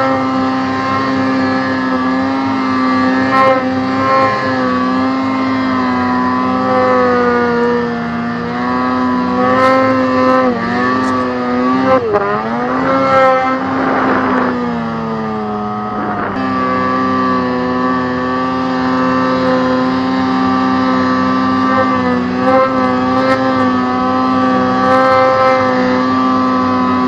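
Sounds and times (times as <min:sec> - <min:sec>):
snowmobile engine revving hard: 0:00.0 - 0:27.0.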